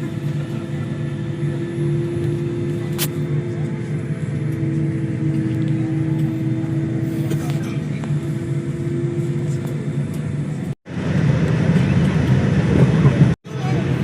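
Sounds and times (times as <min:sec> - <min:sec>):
airliner cabin rumble and hum: 0:00.0 - 0:14.0.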